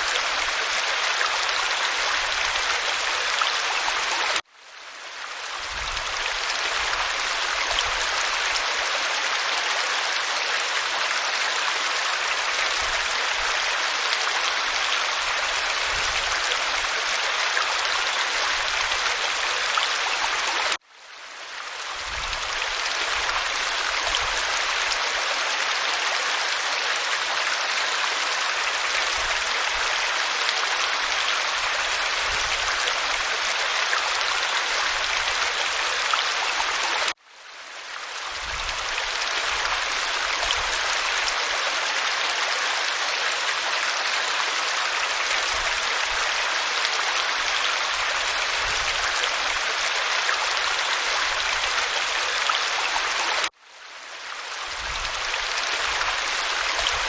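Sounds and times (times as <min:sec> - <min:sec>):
waterfall pouring over rock: 0:00.0 - 0:04.5, 0:05.1 - 0:20.8, 0:21.4 - 0:57.0.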